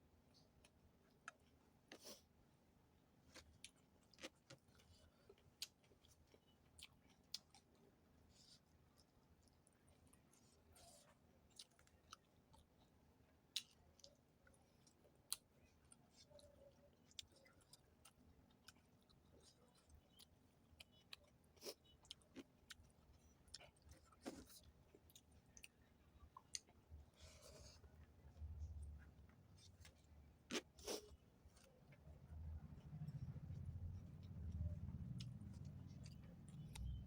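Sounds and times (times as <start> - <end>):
person chewing: 3.3 - 32.0, 32.7 - 37.0.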